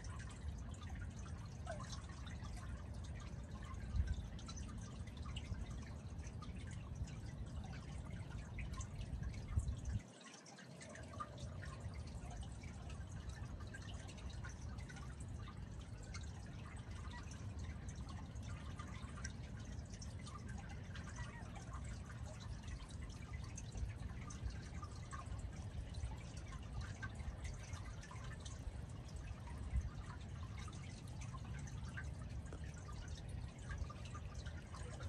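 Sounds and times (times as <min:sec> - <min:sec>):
water drips and splashes: 0:00.0 - 0:35.0
water pouring steadily: 0:00.0 - 0:35.0.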